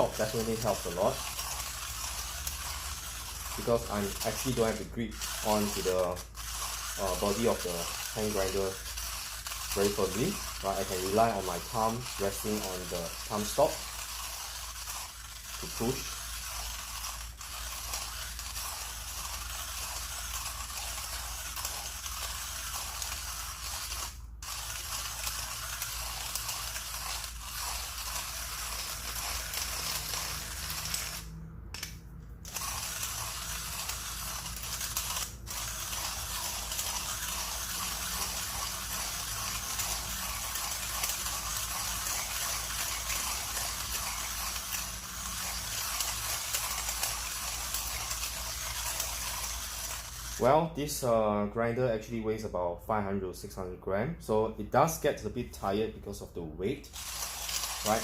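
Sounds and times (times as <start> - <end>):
hand coffee grinder grinding: 0.0 - 51.0, 56.7 - 58.0.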